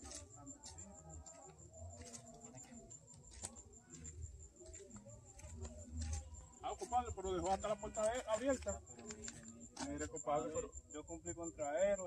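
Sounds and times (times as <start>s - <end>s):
footsteps on paved road: 0.0s - 10.6s
insect trill: 0.0s - 12.0s.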